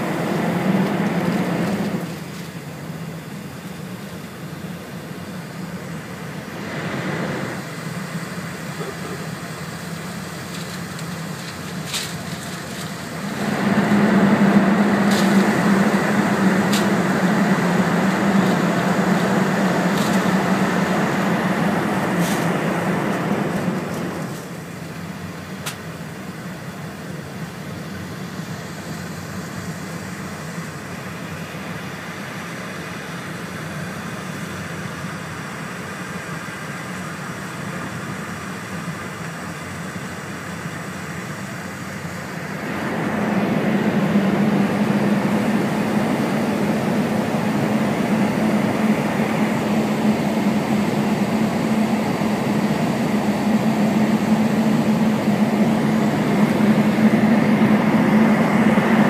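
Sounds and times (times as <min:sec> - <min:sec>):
train cabin rumble with low hum: 0:00.0 - 0:59.0.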